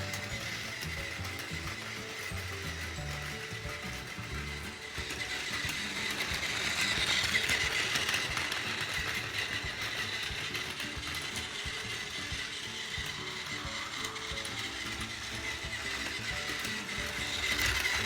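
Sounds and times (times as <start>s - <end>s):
toy train motor whirring: 0.0s - 18.0s.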